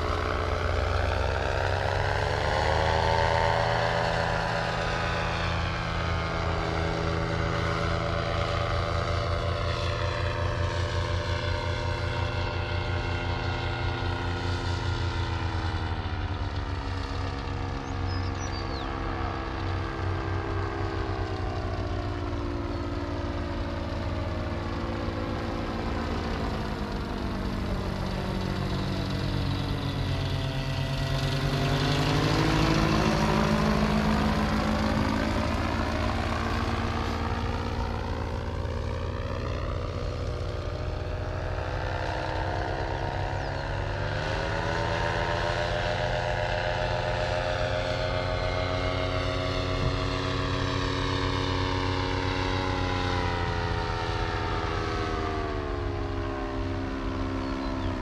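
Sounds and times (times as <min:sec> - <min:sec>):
paramotor engine droning: 0:00.0 - 0:58.0.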